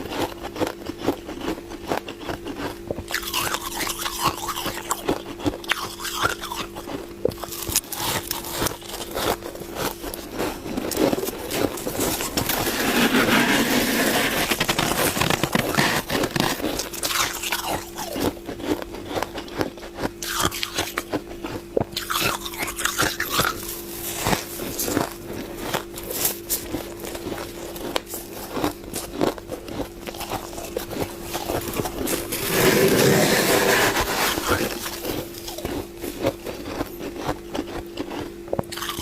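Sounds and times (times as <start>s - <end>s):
chewing freezer frost: 0.0s - 39.0s
faint steady hum: 0.0s - 39.0s.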